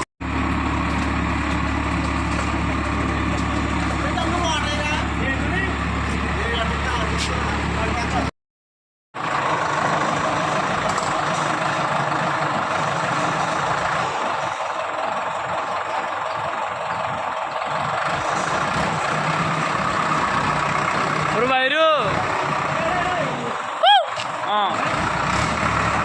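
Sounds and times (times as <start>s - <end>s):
heavy diesel engine running: 0.0s - 8.3s, 9.2s - 26.0s.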